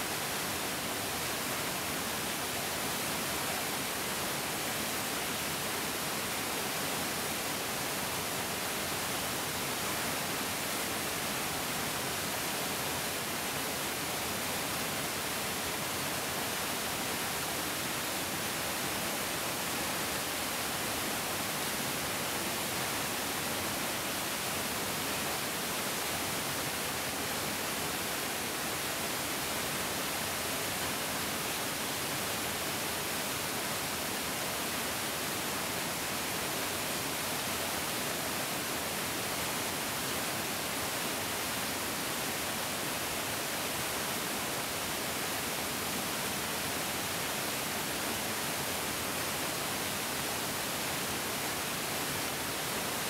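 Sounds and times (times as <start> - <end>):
stream rushing steadily: 0.0 - 53.0.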